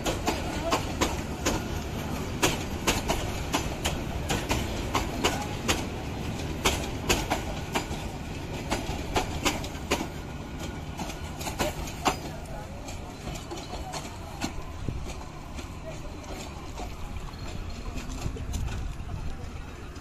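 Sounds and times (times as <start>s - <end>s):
train low rumble: 0.0s - 20.0s
wheels clicking over rail joints: 0.0s - 20.0s.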